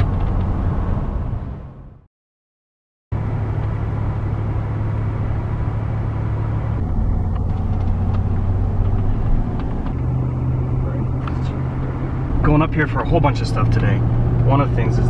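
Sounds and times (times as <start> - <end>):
car engine hum: 0.0 - 2.0, 3.1 - 15.0
road rumble: 0.0 - 2.1, 3.1 - 15.0.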